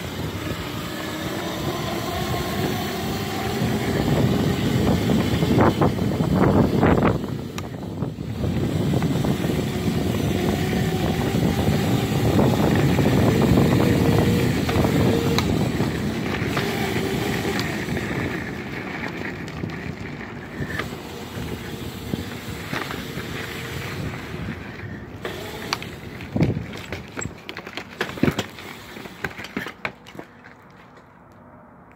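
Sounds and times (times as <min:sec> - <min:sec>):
electric motor whine: 0:00.0 - 0:26.6
wind on microphone: 0:00.0 - 0:26.8
tyres rumbling on gravel: 0:00.0 - 0:31.2.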